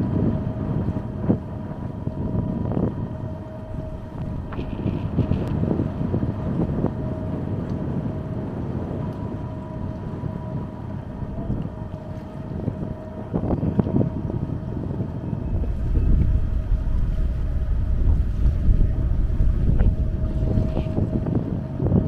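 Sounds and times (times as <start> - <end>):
ferry engine droning with whine: 0.0 - 22.0
wind buffeting microphone: 0.0 - 22.0.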